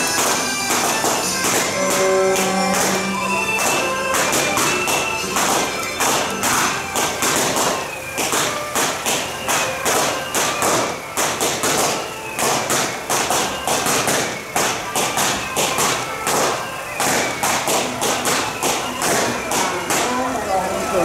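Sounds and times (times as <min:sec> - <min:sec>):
cymbal crashes: 0:00.0 - 0:20.3
drums beating: 0:00.0 - 0:21.0
gongs struck: 0:00.0 - 0:21.0.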